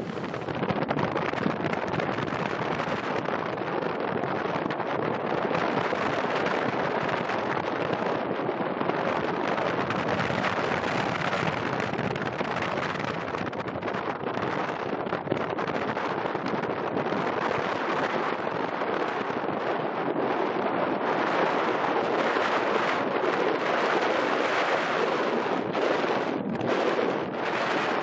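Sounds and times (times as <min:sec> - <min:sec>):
constant crackle: 0:00.0 - 0:28.0
wind buffeting microphone: 0:00.0 - 0:28.0.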